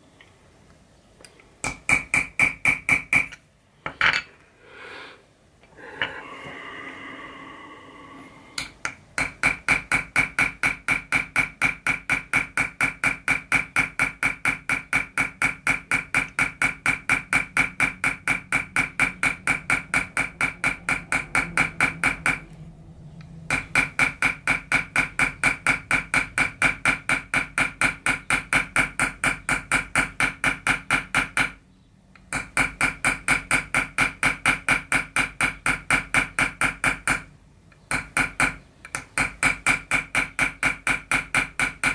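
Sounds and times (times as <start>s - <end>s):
hammer tapping metal punch: 1.6s - 4.3s, 8.6s - 22.6s, 23.5s - 31.6s, 32.2s - 41.9s.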